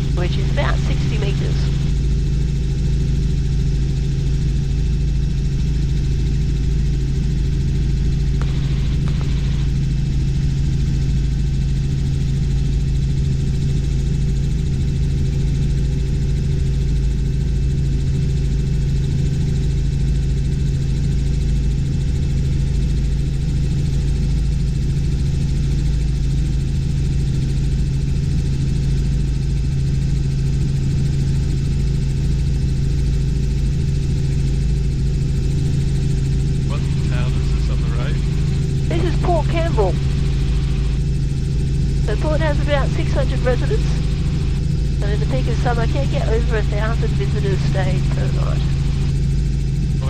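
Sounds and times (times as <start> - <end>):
helicopter engine and rotors drone: 0.0 - 50.0.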